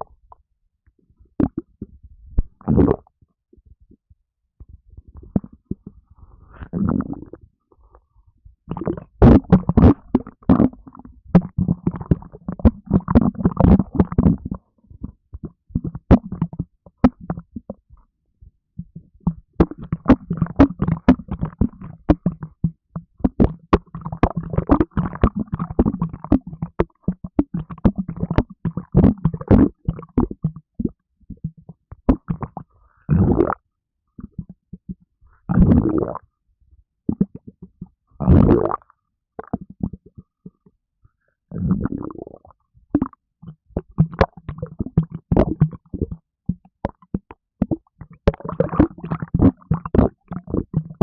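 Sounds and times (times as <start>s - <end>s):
stomach gurgling and rumbling: 0.0s - 51.0s.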